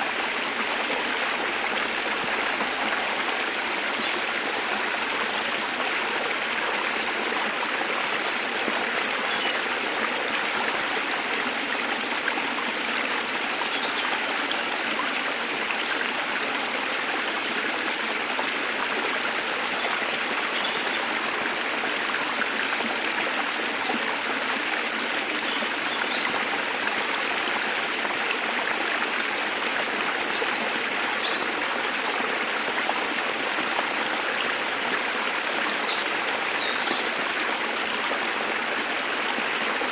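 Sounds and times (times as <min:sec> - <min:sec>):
waterfall flowing: 0:00.0 - 0:39.9.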